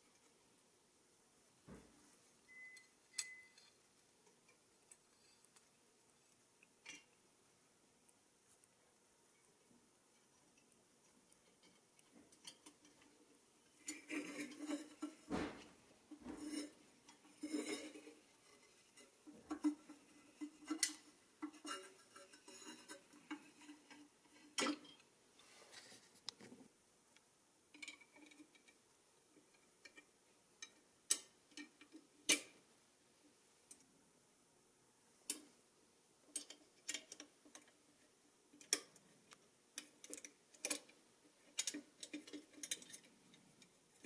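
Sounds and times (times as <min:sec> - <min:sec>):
light metallic clicks and scrapes: 0:01.7 - 0:32.7, 0:35.2 - 0:35.6, 0:36.3 - 0:44.0.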